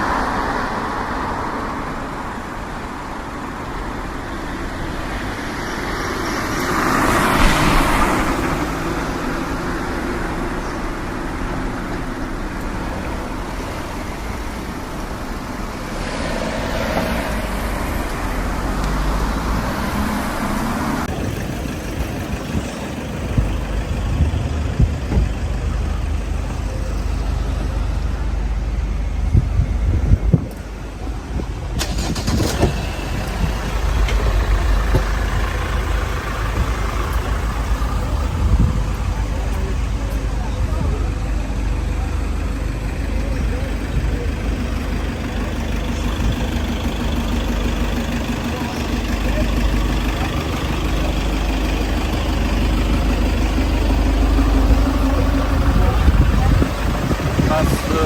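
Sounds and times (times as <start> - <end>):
road traffic: 0.0 - 58.0
vehicle passing loudly: 0.0 - 58.0.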